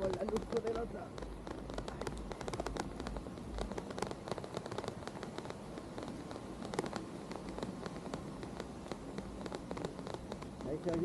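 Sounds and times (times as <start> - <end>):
raindrops ticking and crackling: 0.0 - 11.0
steady rush of water: 0.0 - 11.0.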